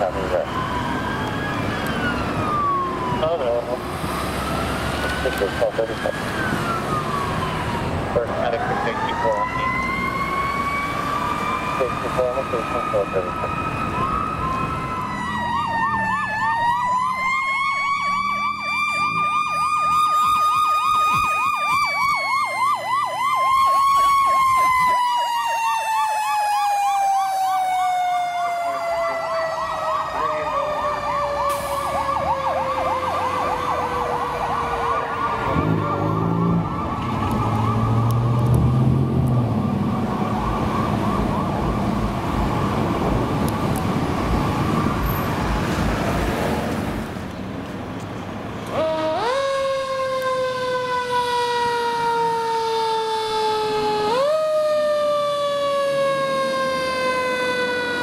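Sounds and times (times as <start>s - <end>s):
fast siren yelp: 0.0s - 38.3s, 39.6s - 45.6s, 48.7s - 58.0s
fire engine siren wail: 0.0s - 47.3s, 48.4s - 58.0s
truck engine rumbling: 0.0s - 52.6s.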